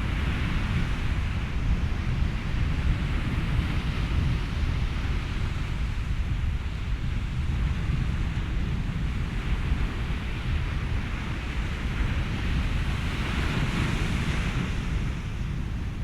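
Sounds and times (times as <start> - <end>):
low wind rumble: 0.0 - 16.0
ocean waves breaking: 0.0 - 16.0.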